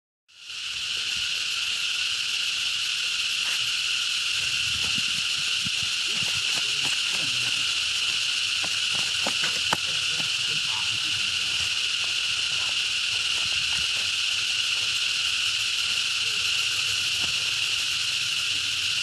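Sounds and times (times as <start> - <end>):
insects droning: 0.3 - 19.0.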